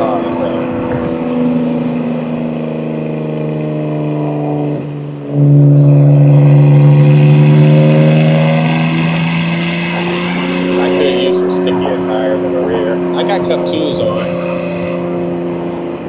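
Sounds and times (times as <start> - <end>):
car engine revving under load: 0.0 - 16.0.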